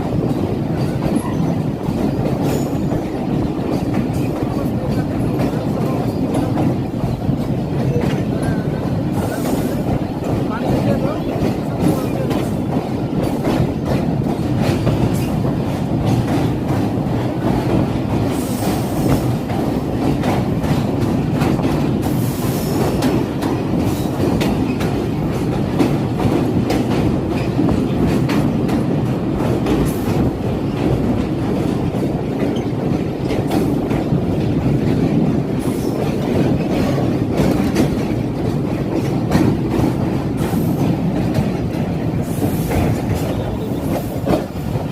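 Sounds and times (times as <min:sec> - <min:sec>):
train wheels rumbling: 0:00.0 - 0:44.9
wheels clicking over track: 0:00.0 - 0:44.9.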